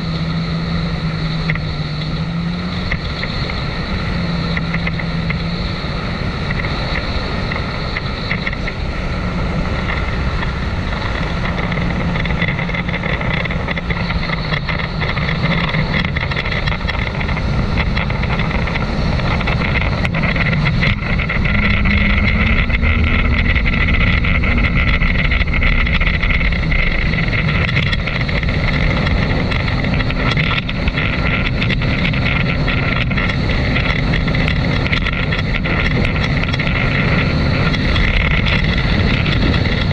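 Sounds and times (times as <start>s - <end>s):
jet ski engine running hard: 0.0s - 39.9s
water rushing: 0.0s - 39.9s
wind: 0.0s - 39.9s.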